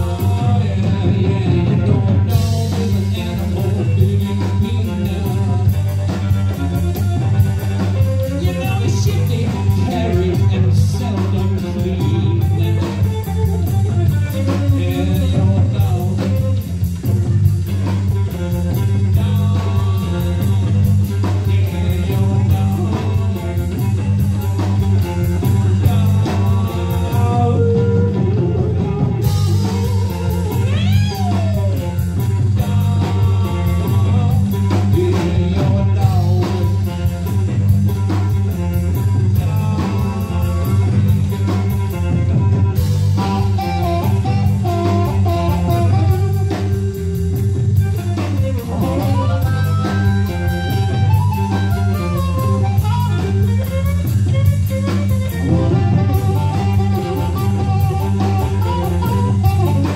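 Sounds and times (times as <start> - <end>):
bass guitar: 0.0 - 59.9
drum kit: 0.0 - 59.9
electric guitar: 0.0 - 59.9
person singing: 0.0 - 59.9.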